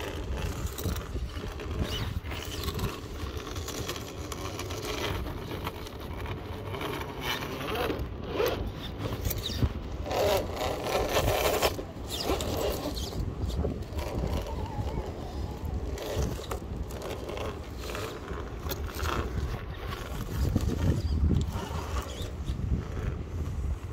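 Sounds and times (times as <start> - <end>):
electric drivetrain whirring: 0.0 - 23.7
tyres scraping on rock: 0.0 - 23.9.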